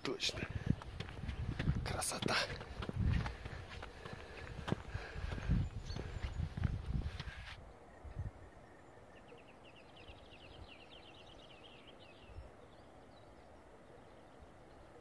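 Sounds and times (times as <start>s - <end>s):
faint songbird song: 0.0s - 15.0s.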